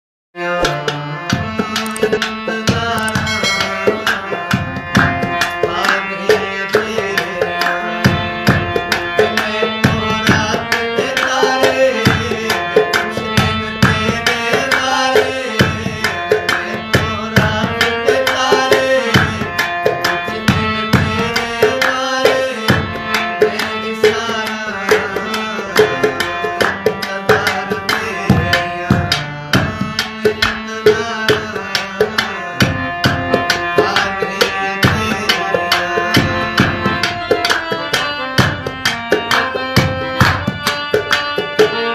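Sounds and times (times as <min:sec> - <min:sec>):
harmonium melody over drone: 0:00.4 - 0:41.9
drum beating steady rhythm: 0:00.7 - 0:41.9.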